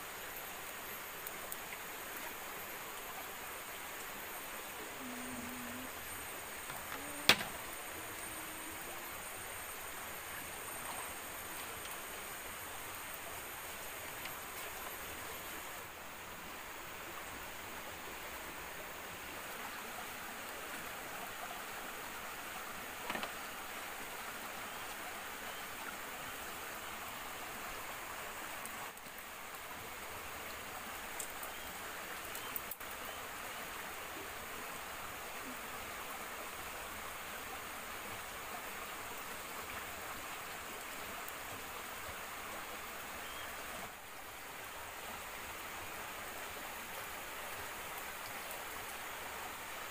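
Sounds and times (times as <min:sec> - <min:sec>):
stream flowing: 0:00.0 - 0:49.9.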